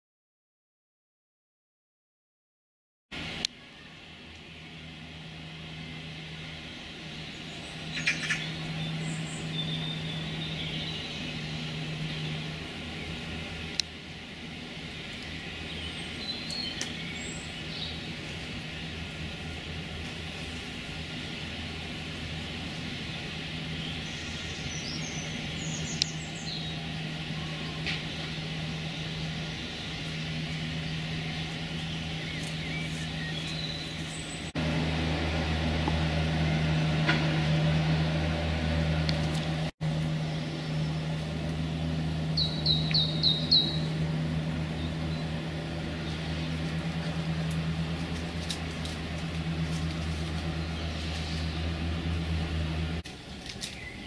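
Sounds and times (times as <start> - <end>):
distant traffic hum: 3.1 - 54.0
songbird chirps: 3.3 - 13.9, 14.7 - 34.6, 40.1 - 54.0.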